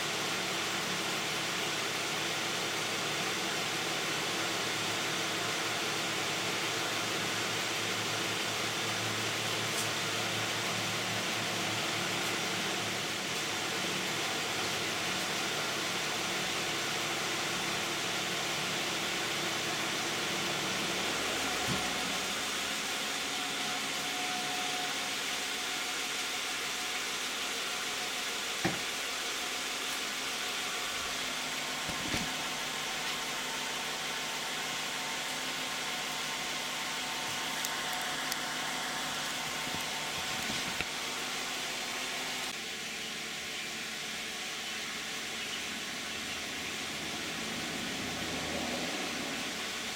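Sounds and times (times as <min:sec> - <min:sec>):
car engine idling: 0:00.0 - 0:23.6, 0:25.0 - 0:49.9.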